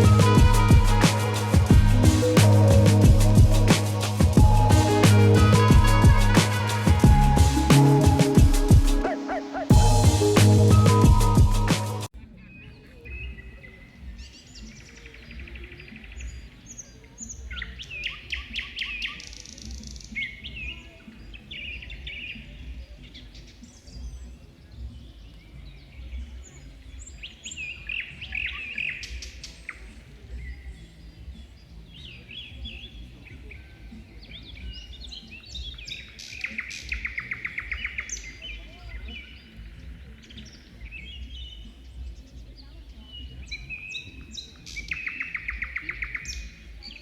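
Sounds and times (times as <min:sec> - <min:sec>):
small birds chirping and singing: 0:00.0 - 0:47.0.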